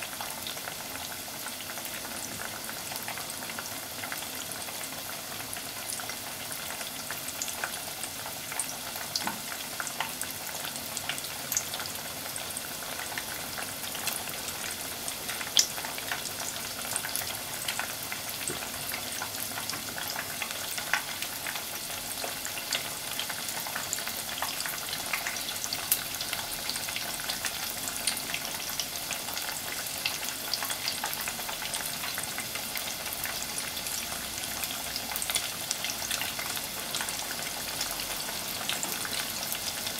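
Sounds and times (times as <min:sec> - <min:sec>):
cutlet deep-frying in hot oil: 0:00.0 - 0:39.9.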